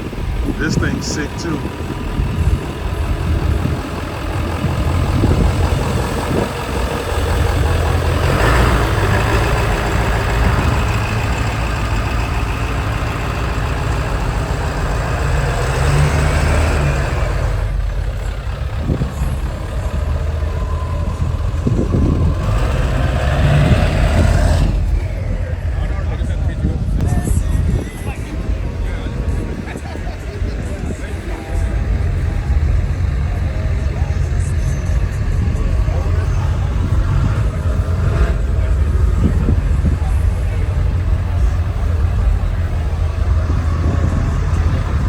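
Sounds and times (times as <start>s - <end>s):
truck engine rumbling: 0.0s - 45.0s.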